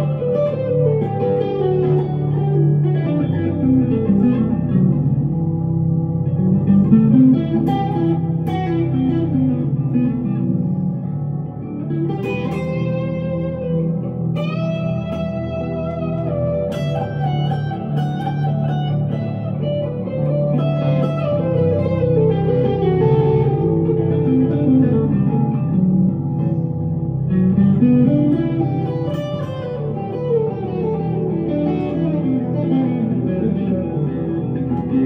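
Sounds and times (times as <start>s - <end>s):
electric guitar through amplifier: 0.0s - 35.0s.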